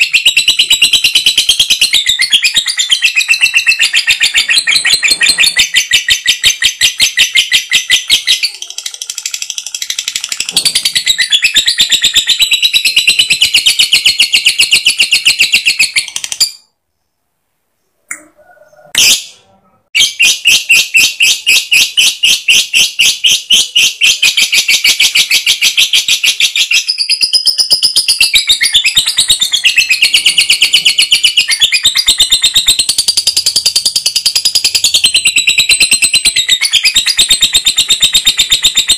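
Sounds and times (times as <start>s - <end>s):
lovebird chattering trill: 0.0s - 16.7s, 20.0s - 38.9s.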